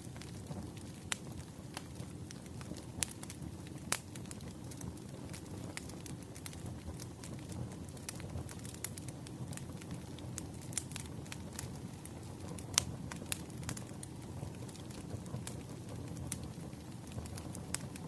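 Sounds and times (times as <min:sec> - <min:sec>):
fire crackles and pops: 0:00.0 - 0:18.0
wood fire rumble: 0:00.0 - 0:18.0.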